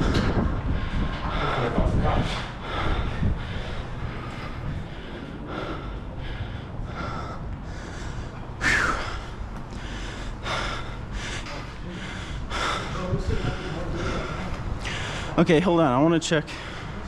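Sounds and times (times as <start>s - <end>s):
person panting hard: 0.0s - 15.4s, 16.5s - 17.0s.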